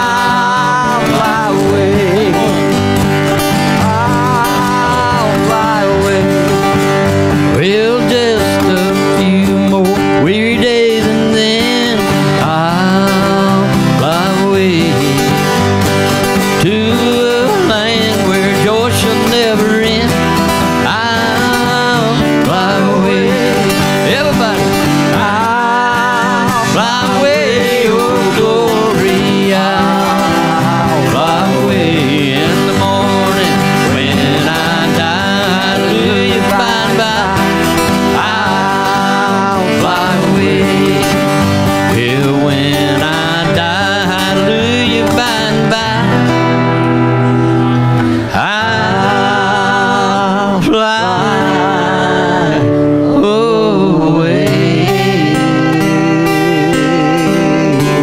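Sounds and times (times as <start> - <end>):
acoustic guitars strumming: 0.0 - 58.0
man singing: 0.0 - 58.0.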